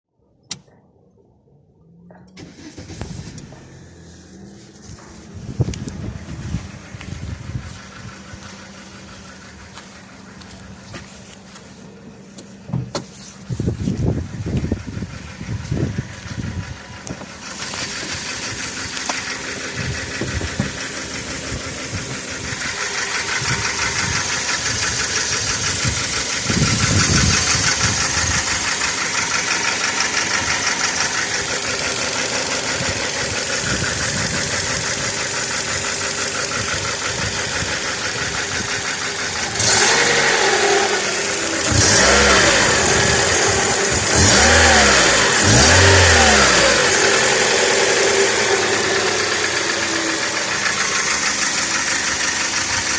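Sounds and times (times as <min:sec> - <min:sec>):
car engine revving: 0:01.8 - 0:52.9
car engine ticking chatter: 0:02.2 - 0:52.9.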